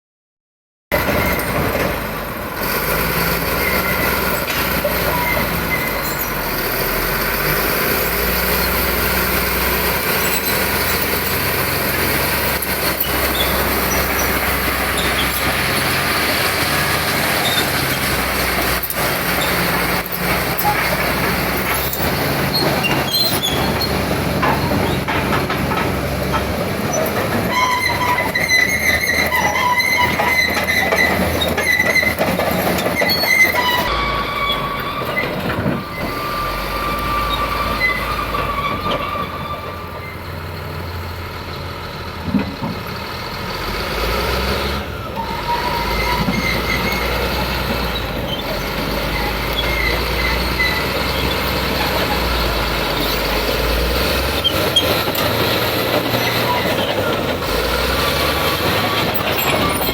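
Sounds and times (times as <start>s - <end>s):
steel tracks clanking and squealing: 0.9s - 41.1s, 43.5s - 59.9s
diesel engine droning: 0.9s - 59.9s.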